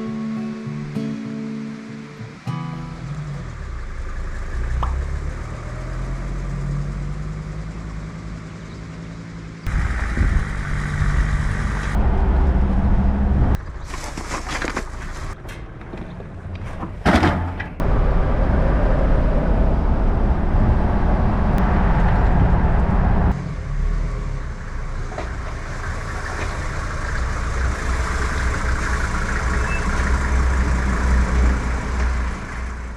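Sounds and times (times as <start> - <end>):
diesel engine rumbling: 0.0 - 32.9.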